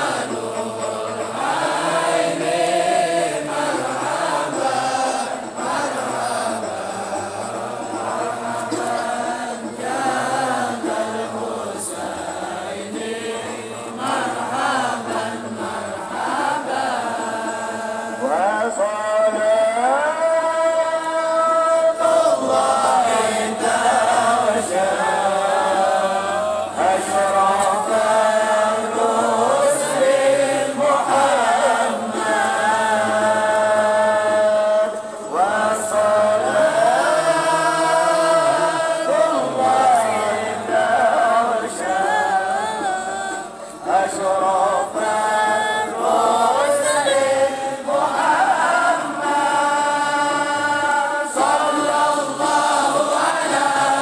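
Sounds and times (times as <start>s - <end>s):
crowd of men chanting: 0.0s - 54.0s.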